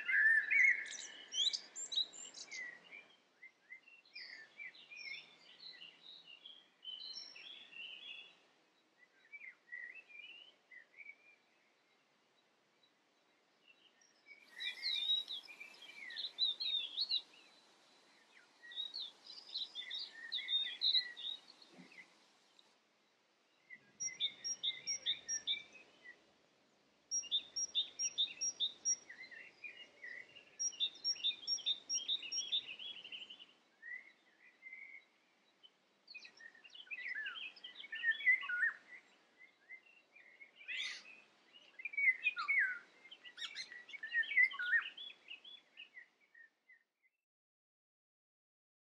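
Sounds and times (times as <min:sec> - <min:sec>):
birds singing chirps and trills: 0:00.0 - 0:47.1.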